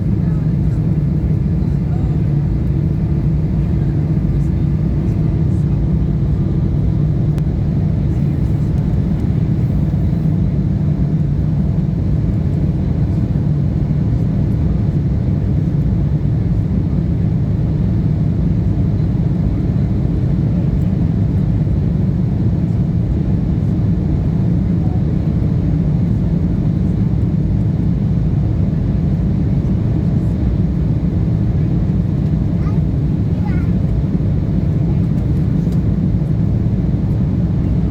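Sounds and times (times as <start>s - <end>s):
jet engine cabin rumble: 0.0s - 37.9s.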